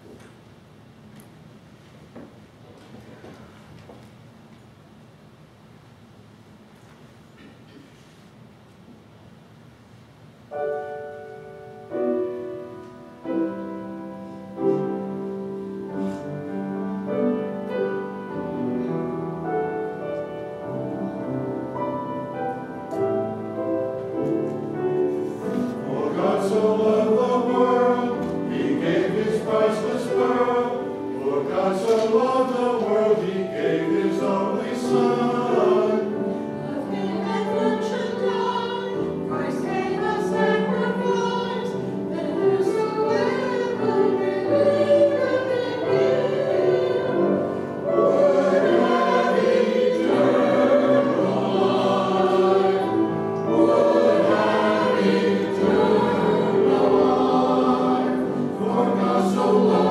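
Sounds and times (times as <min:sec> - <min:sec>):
piano chords: 0:10.4 - 0:59.9
church choir singing: 0:10.6 - 0:59.9.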